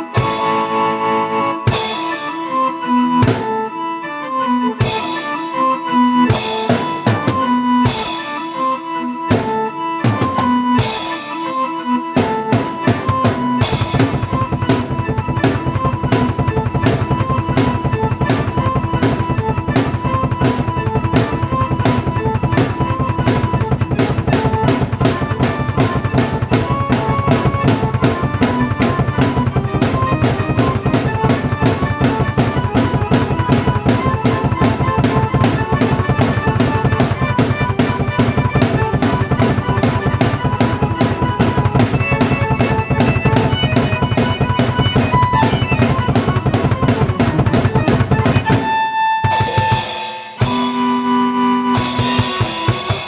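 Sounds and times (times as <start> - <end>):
drum kit fast beat: 0.0 - 1.0, 1.7 - 3.6, 4.8 - 51.2, 51.8 - 53.0
keyboard melody: 0.0 - 53.0.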